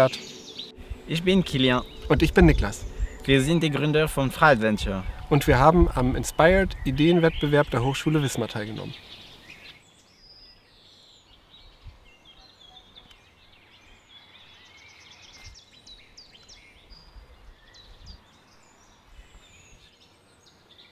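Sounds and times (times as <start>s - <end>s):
birds chirping and trilling: 0.0s - 20.9s
low outdoor background noise: 0.0s - 20.9s.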